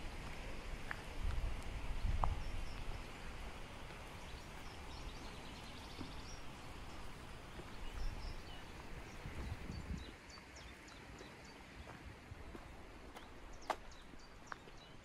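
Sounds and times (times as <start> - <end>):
steady noisy hiss: 0.0 - 15.0
small birds chirping: 0.3 - 15.0.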